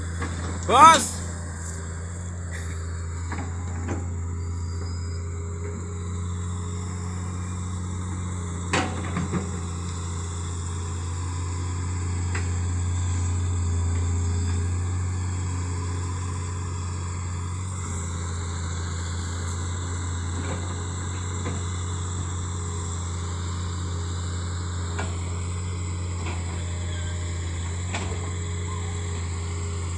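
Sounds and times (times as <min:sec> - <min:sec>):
heavy machine engine droning: 0:00.0 - 0:29.9.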